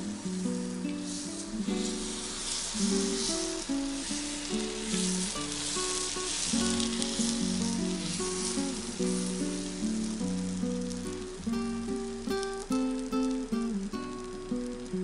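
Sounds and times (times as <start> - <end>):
batter sizzling on hot plate: 0.0 - 15.0
plucked background music: 0.0 - 15.0.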